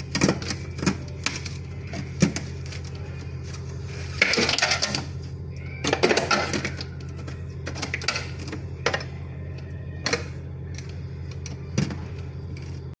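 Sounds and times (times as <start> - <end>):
refrigerator compressor humming: 0.0 - 13.0.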